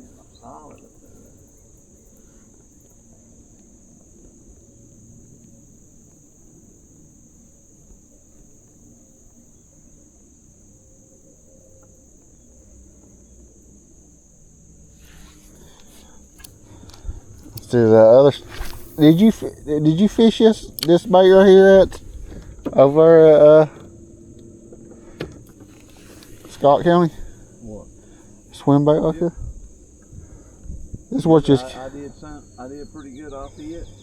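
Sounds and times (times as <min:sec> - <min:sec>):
insect chorus drone: 0:00.0 - 0:34.0.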